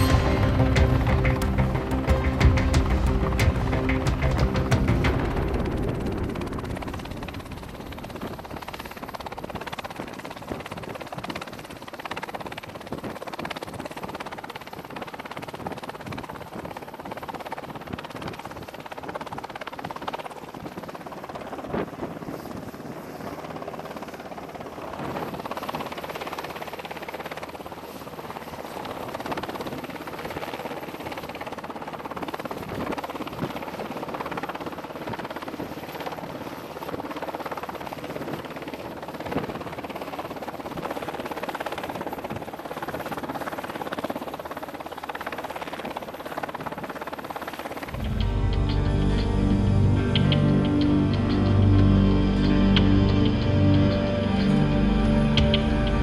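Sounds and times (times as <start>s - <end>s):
helicopter engine whine and rotor: 0.0s - 56.0s.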